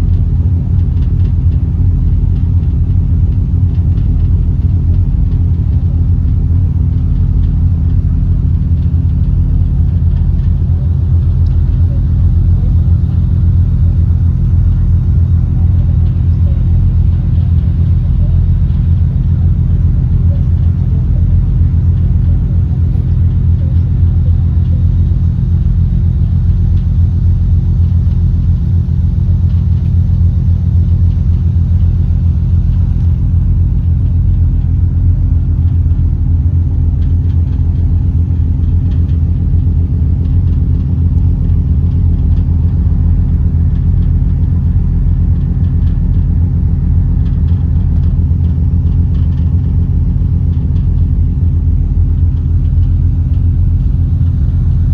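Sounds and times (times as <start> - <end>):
engine droning: 0.0 - 54.9.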